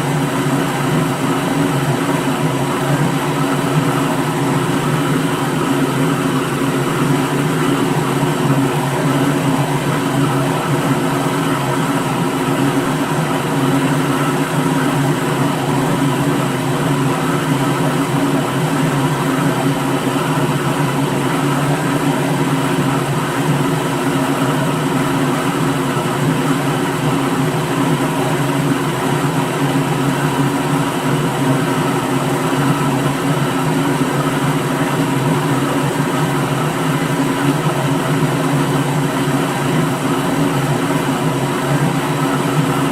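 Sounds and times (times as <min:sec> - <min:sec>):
blender running: 0:00.0 - 0:42.9.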